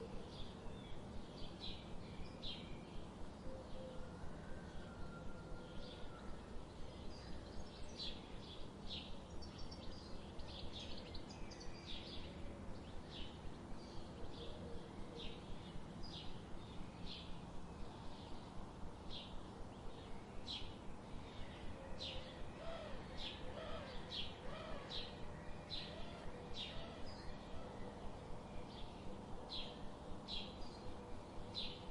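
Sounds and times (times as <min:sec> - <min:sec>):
faint background hiss: 0:00.0 - 0:31.9.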